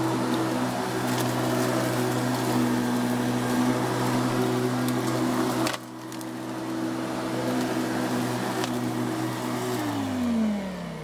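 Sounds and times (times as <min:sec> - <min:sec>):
electric lawn mower running: 0:00.0 - 0:11.0.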